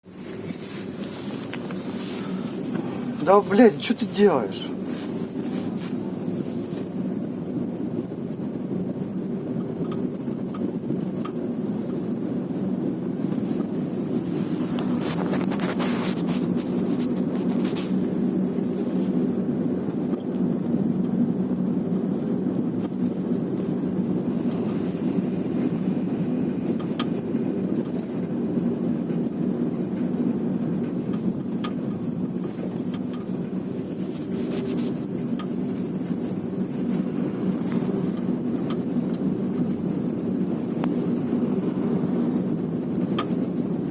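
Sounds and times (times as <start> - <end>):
car cabin low rumble: 0.1 - 43.9.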